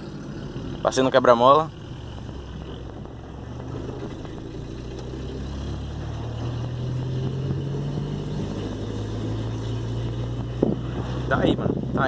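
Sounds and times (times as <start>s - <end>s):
car engine heard from cabin: 0.0s - 12.0s.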